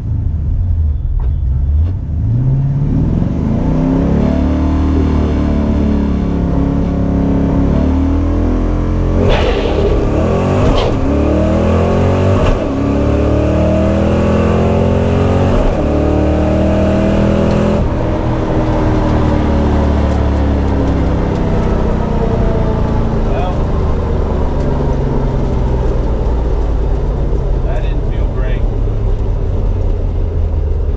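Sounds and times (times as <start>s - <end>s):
car engine at full throttle: 0.0s - 30.9s.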